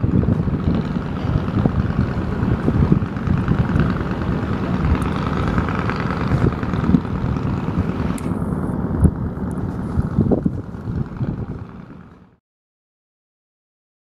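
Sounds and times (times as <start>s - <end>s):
boat engine rumble: 0.0s - 12.4s
wind buffeting microphone: 0.0s - 12.4s.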